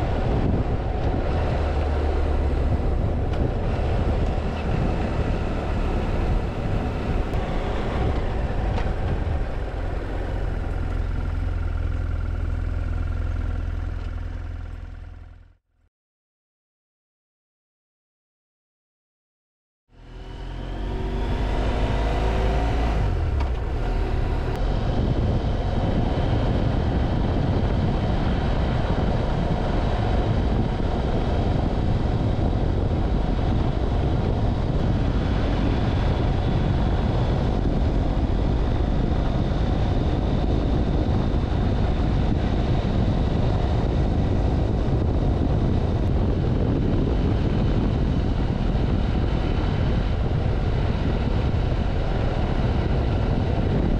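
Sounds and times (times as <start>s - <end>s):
motorcycle engine accelerating: 0.0s - 15.6s, 19.9s - 53.9s
wind and road noise: 0.0s - 15.6s, 19.9s - 53.9s.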